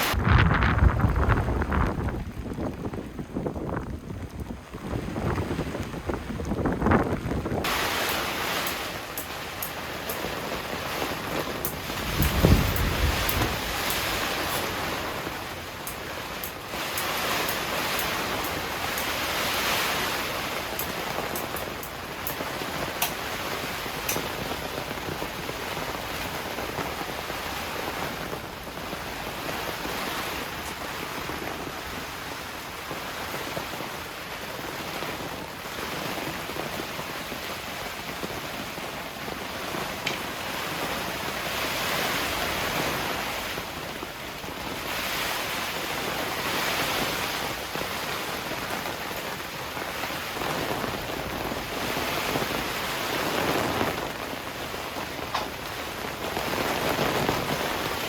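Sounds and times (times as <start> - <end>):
gusting wind: 0.0 - 58.0
heavy rain: 0.0 - 58.0.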